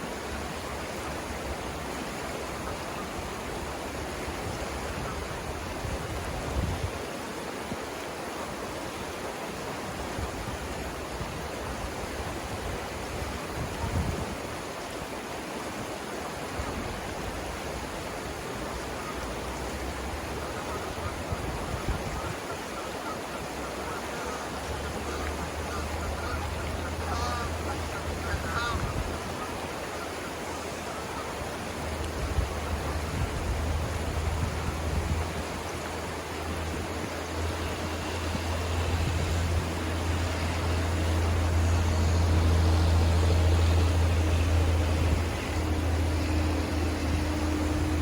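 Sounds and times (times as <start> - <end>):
water rushing over rocks: 0.0 - 48.0.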